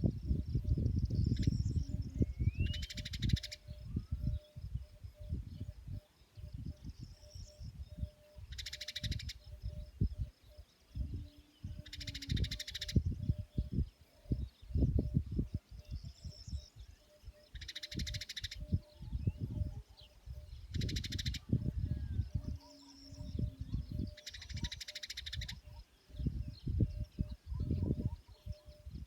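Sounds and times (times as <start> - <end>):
birds chirping: 0.2 - 29.0.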